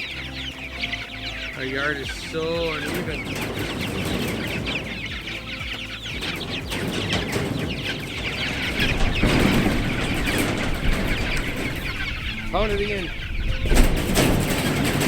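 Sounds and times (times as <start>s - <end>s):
chicks peeping: 0.0s - 15.0s
low rustling noise: 0.0s - 15.0s.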